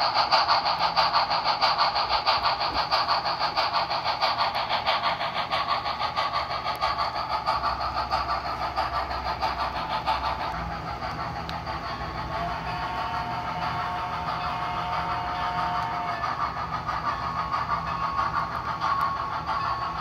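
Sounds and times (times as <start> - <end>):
model steam locomotive chuffs: 0.0 - 20.0.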